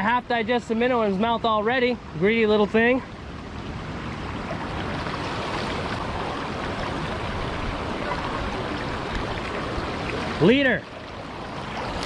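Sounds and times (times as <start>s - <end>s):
water rushing from spillway: 0.0s - 12.0s.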